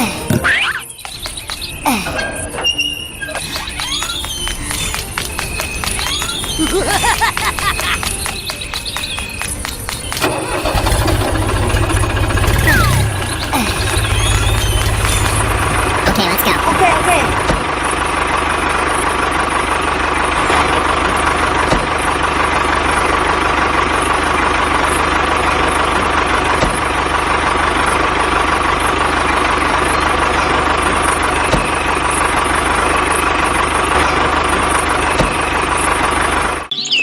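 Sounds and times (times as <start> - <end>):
tractor engine idling: 0.2 - 36.7.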